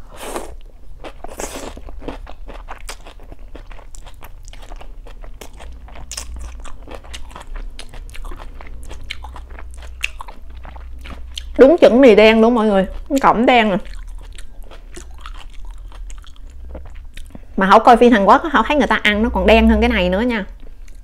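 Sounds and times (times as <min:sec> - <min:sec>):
chewing and crunching food: 0:00.0 - 0:17.6, 0:20.5 - 0:21.0.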